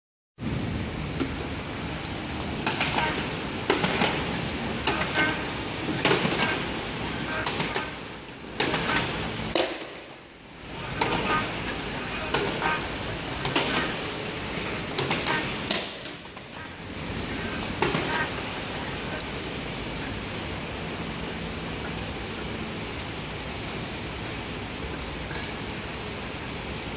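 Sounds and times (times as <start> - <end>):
labeling machine running: 1.2 - 26.9.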